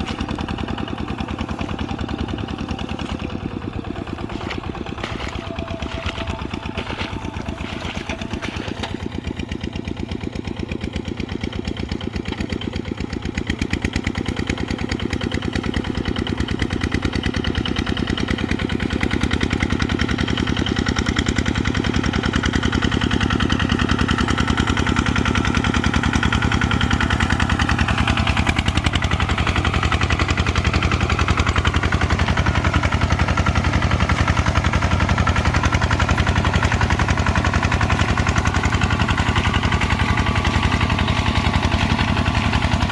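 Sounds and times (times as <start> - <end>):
diesel engine chugging: 0.0 - 42.9.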